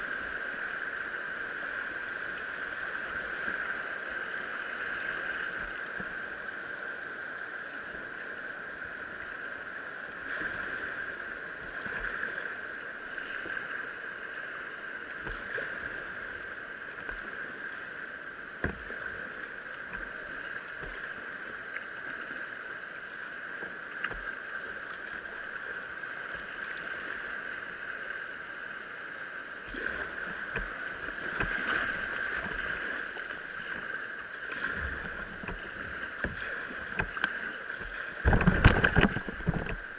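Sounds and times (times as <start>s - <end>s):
river rapids splashing on kayak: 0.0s - 39.9s.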